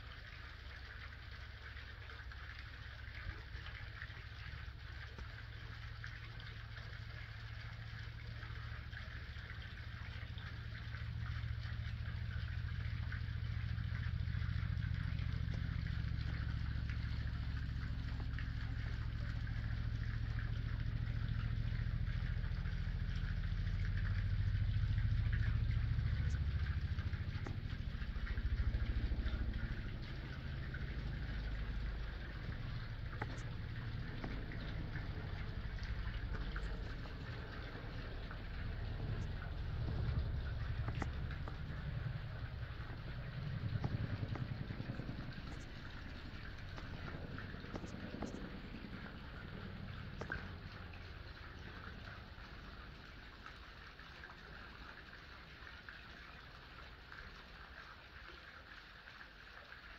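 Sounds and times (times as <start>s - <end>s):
low engine-like rumble: 0.0s - 59.9s.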